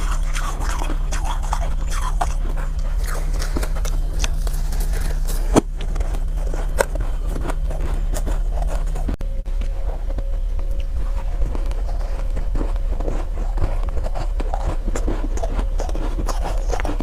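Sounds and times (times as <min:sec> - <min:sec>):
ice being chewed: 0:00.0 - 0:17.0
steady low hum: 0:00.0 - 0:17.0.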